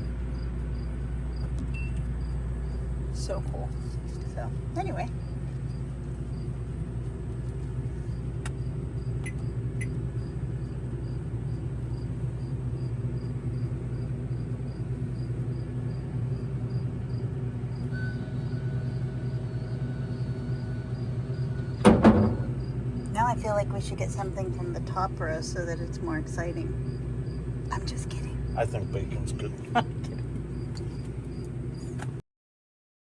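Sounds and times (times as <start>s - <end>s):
low mechanical hum: 0.0s - 32.2s.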